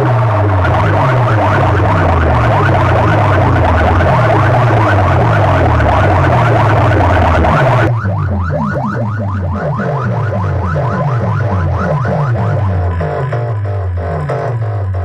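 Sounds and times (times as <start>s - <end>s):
electronic siren music: 0.0s - 15.0s
heavy pulsing bass: 0.0s - 15.0s.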